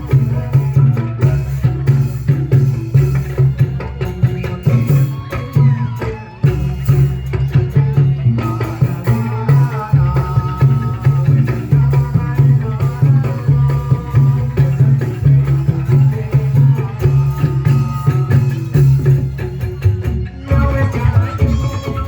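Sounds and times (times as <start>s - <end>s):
quick hand-drum rhythm: 0.0s - 22.0s.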